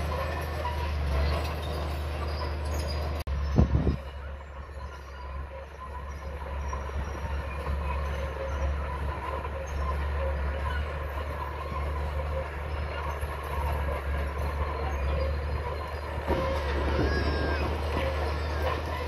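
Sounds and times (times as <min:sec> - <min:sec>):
bulldozer diesel engine: 0:00.0 - 0:19.0
steel tracks squealing and clanking: 0:00.0 - 0:19.0.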